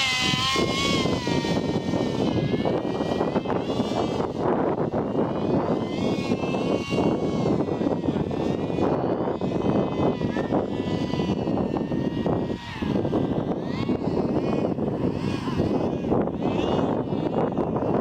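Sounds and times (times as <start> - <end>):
model aircraft motor whine: 0.0 - 18.0
steady rushing noise: 0.0 - 18.0.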